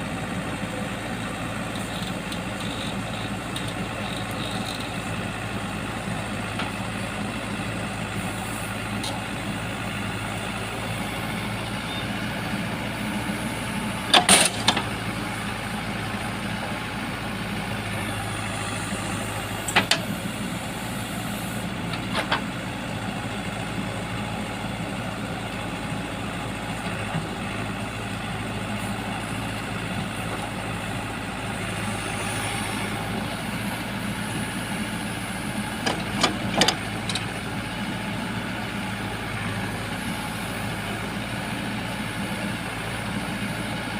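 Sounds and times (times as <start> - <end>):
diesel machinery engine running: 0.0 - 43.9.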